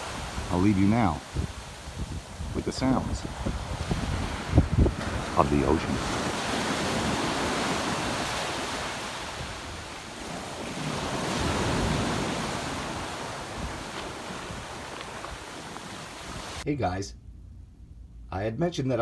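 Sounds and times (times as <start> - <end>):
ocean waves breaking on shore: 0.0 - 16.6.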